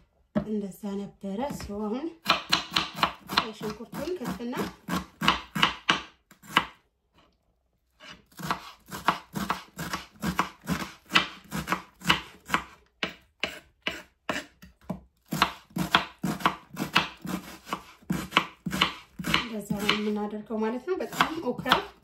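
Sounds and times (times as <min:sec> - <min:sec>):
knife chopping onion: 0:01.4 - 0:06.8, 0:08.0 - 0:22.0.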